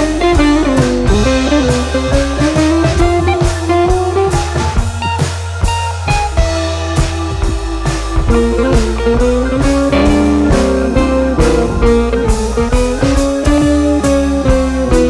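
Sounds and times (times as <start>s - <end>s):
drums with steady beat: 0.0s - 15.0s
guitar: 0.0s - 15.0s.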